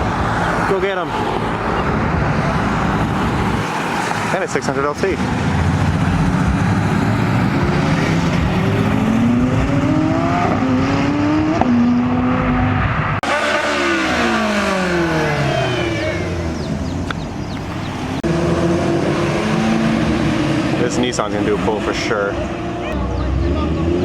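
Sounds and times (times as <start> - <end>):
car passing and pulling away: 0.0 - 24.0
sports car engine accelerating: 2.5 - 24.0.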